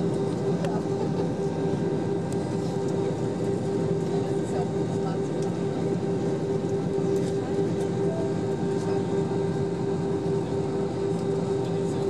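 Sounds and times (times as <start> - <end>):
airplane cabin engine roar: 0.0 - 12.0
constant droning hum: 0.0 - 12.0.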